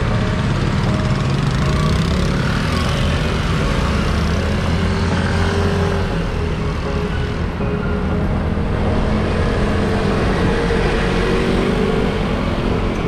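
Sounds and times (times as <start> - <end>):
motor scooters running: 0.0 - 13.0
wind and road noise: 0.0 - 13.0.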